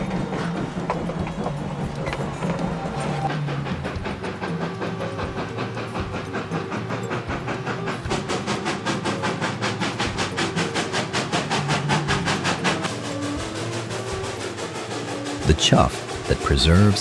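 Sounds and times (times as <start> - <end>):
steam hissing: 0.0 - 17.0
steam locomotive exhaust chuffs: 0.0 - 17.0.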